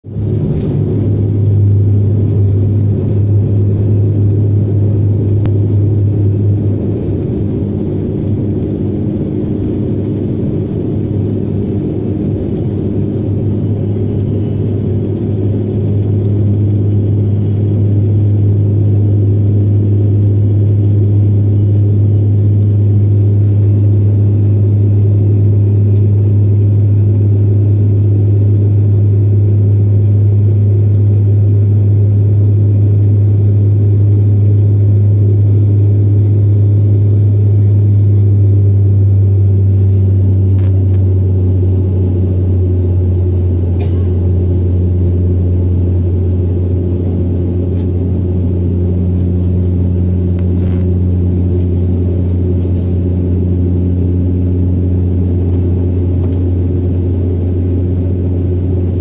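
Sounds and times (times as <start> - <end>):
airliner engines droning in cabin: 0.0 - 59.0.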